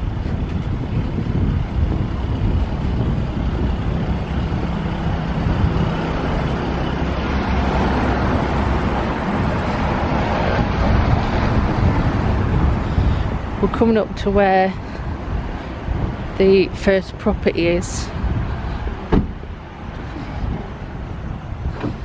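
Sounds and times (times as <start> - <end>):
road traffic noise: 0.0 - 22.0
wind rumble on microphone: 0.0 - 22.0.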